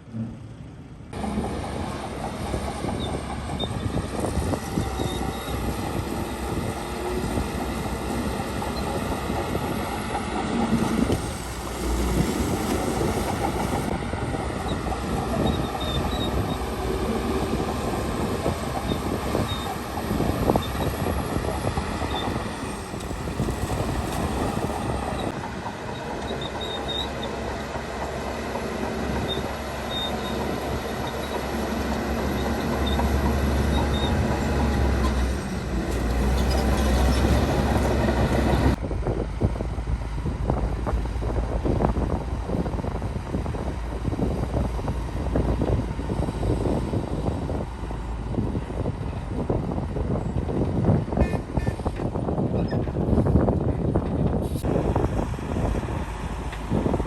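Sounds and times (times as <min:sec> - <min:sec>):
steel tracks clanking and squealing: 0:00.0 - 0:38.8, 0:42.6 - 0:55.0
bulldozer diesel engine running: 0:00.0 - 0:57.0.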